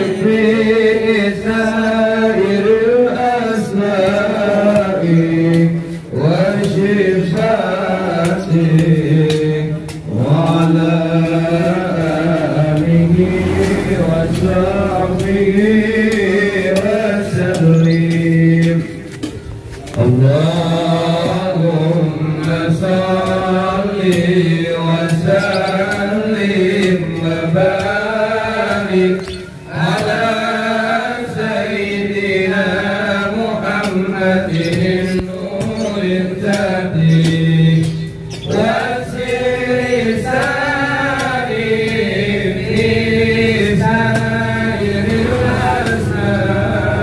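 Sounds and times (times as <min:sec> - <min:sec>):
man chanting: 0:00.0 - 0:19.0, 0:20.0 - 0:40.1.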